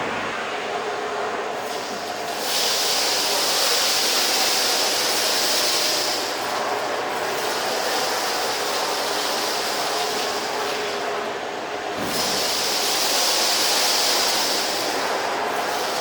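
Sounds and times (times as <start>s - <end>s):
vacuum cleaner sucking: 1.6s - 11.2s, 11.8s - 16.0s.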